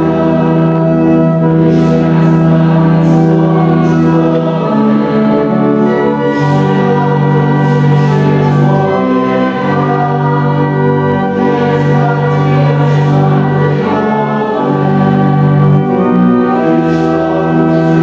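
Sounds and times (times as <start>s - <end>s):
church organ chords: 0.0s - 18.0s
voices singing a hymn: 0.0s - 18.0s.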